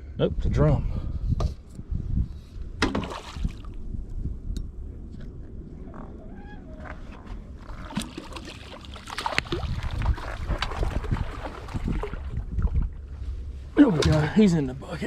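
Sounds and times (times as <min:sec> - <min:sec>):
wind buffeting microphone: 0:00.0 - 0:08.3, 0:09.2 - 0:15.0.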